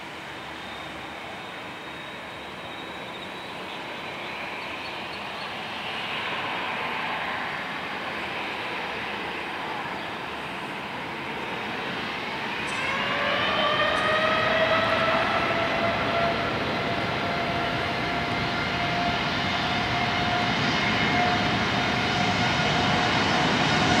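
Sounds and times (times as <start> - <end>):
high whine of jet engines: 0.0 - 24.0
jet engines running: 0.0 - 24.0
jet engines spooling up: 0.0 - 24.0.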